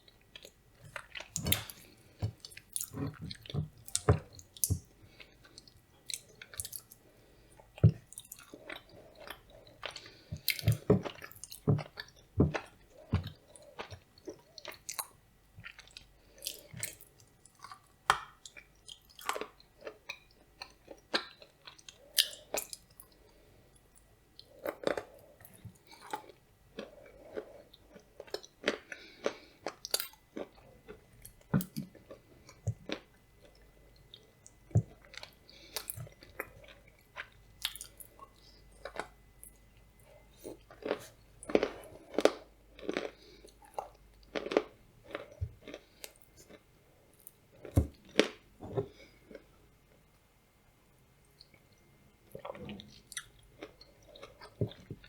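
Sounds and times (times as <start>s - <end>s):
person chewing with crunches: 0.0s - 50.0s, 51.4s - 55.0s.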